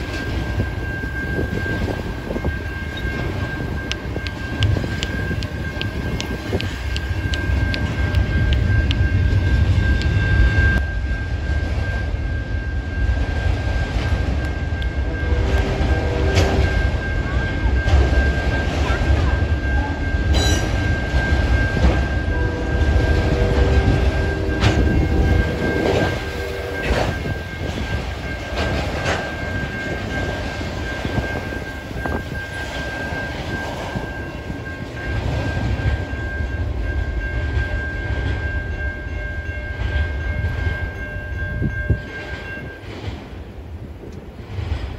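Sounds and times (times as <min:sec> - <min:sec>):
train clanks: 0:00.0 - 0:44.9
train wheels rumbling on rail: 0:00.0 - 0:44.9.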